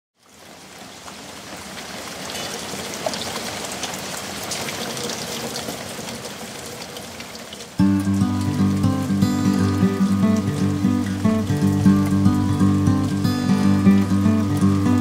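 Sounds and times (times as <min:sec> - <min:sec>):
steady rain falling: 0:00.2 - 0:15.0.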